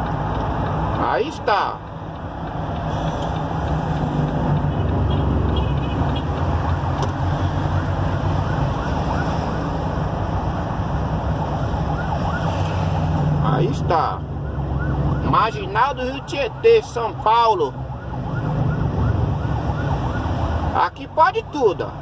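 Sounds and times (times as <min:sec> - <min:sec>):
road noise inside cab: 0:00.0 - 0:22.0
truck engine drone: 0:00.0 - 0:22.0.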